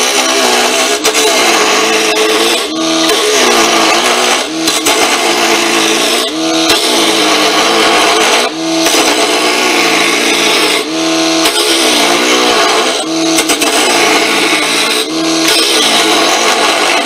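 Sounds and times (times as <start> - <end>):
gouge scraping spinning wood: 0.0 - 17.0
lathe motor hum: 0.0 - 17.0.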